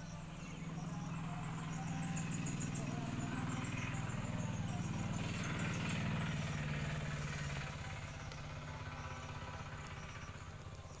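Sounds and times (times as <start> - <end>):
faint high chirping: 0.0 - 11.0
small engine running: 0.0 - 11.0.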